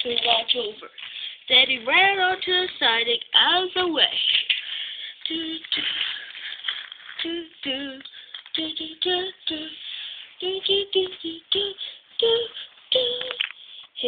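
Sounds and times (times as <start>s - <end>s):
child singing a wordless tune: 0.0s - 6.2s, 7.2s - 14.0s.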